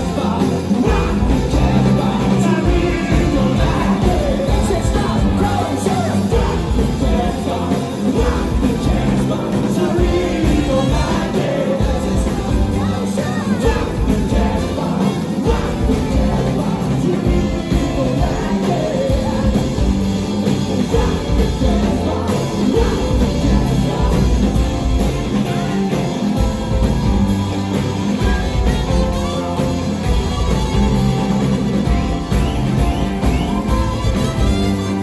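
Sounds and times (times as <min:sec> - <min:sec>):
group of singers: 0:00.0 - 0:35.0
live rock band playing: 0:00.0 - 0:35.0.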